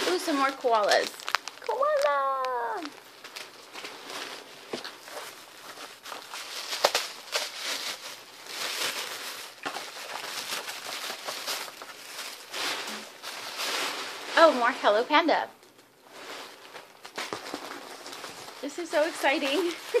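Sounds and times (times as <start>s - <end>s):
wrapping paper crinkling: 0.0s - 20.0s.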